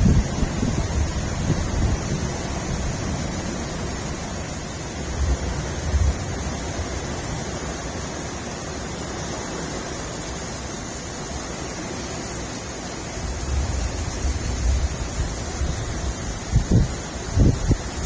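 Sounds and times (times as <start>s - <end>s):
wind buffeting microphone: 0.0s - 10.2s, 13.0s - 18.0s
heavy rain pouring: 0.0s - 18.0s.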